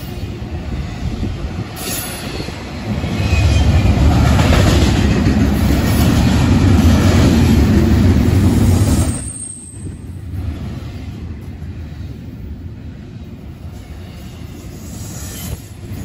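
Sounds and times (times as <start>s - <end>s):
freight train wheels rumbling on rail: 0.0s - 16.0s.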